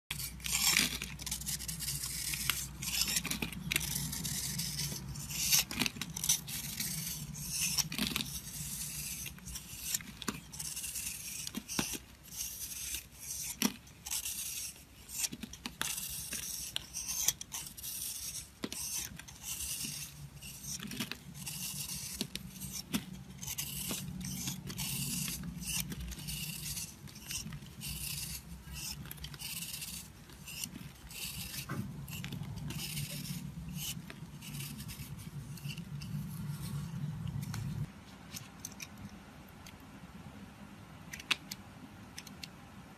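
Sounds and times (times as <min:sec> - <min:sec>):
knife scraping soap: 0:00.1 - 0:39.1.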